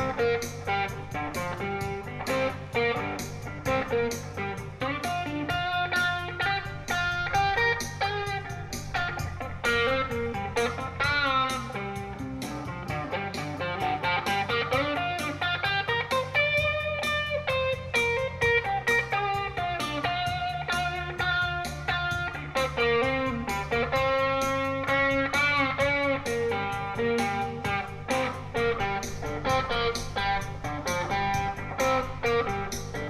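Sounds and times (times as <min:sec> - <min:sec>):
beat and bass backing: 0:00.0 - 0:33.0
electric guitar lead: 0:00.0 - 0:33.0.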